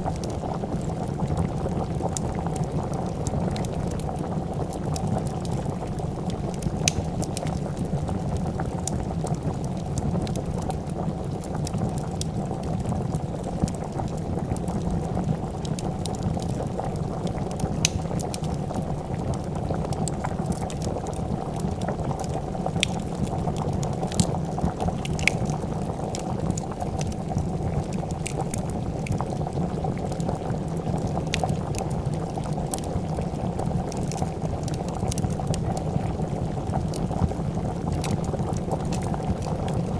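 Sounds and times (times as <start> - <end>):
soup bubbling in a pot: 0.0 - 39.9
wood fire crackling and popping: 0.0 - 39.9.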